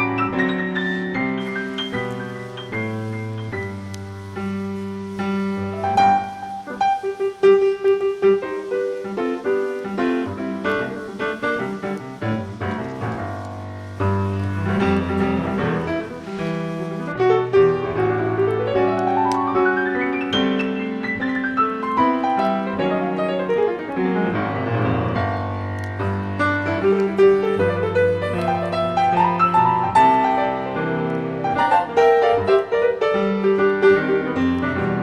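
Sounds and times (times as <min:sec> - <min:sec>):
calm piano music: 0:00.0 - 0:35.0.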